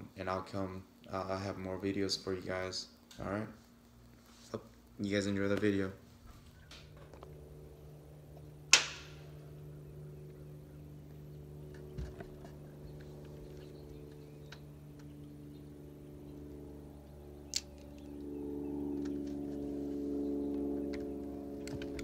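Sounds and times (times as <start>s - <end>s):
low electric hum: 0.0s - 22.0s.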